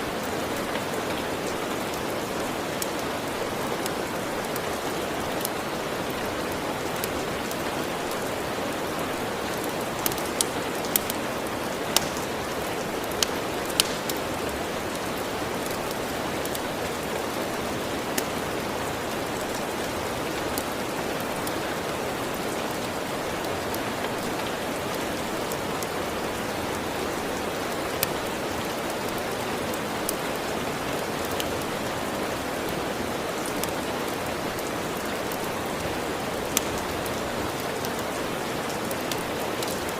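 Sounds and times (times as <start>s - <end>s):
steady rain: 0.0s - 39.9s
wood fire crackling: 0.1s - 39.9s.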